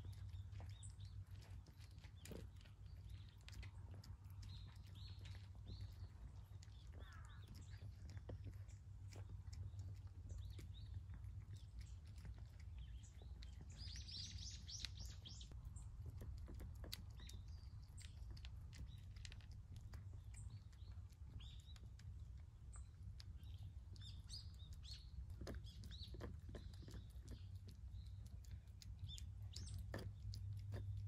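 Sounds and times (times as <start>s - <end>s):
cats chewing and lapping food: 0.0s - 31.0s
small birds chirping: 0.0s - 31.0s
steady low hum: 0.0s - 31.0s.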